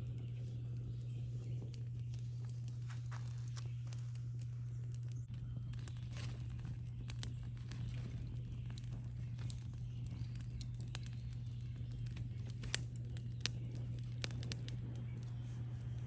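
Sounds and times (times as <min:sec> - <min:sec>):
steady low hum: 0:00.0 - 0:16.0
wood campfire crackling: 0:00.0 - 0:16.0.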